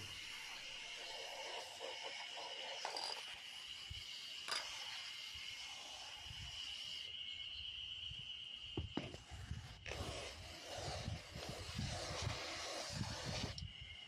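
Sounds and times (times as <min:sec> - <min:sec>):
high-pitched insect trill: 0:00.0 - 0:09.8, 0:11.7 - 0:14.0.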